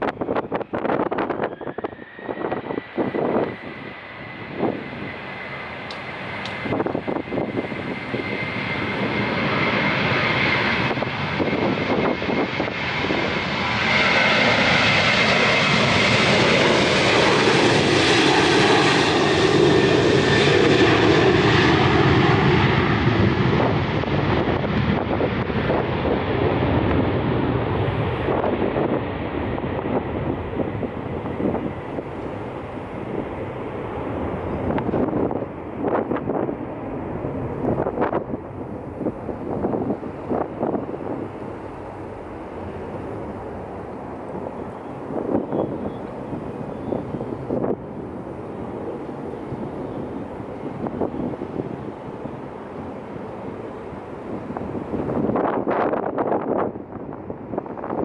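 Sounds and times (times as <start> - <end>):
jet engines passing by: 0.0 - 58.0.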